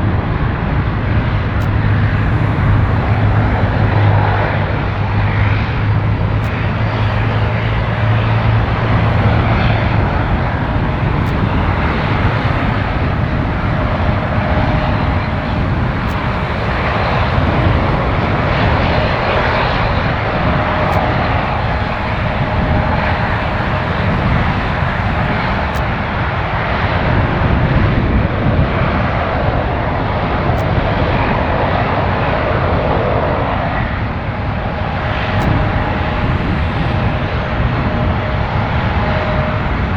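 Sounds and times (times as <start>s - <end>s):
low hum: 0.0s - 27.6s, 30.8s - 39.9s
jet engines rushing: 0.0s - 39.9s.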